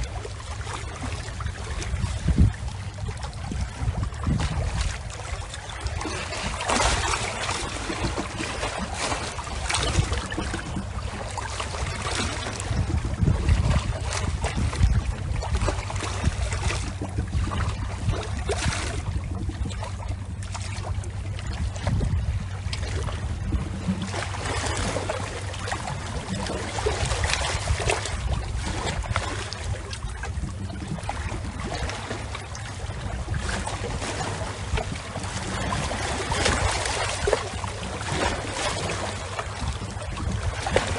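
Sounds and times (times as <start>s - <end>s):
water splashing and lapping: 0.0s - 40.9s
wind on microphone: 0.0s - 40.9s.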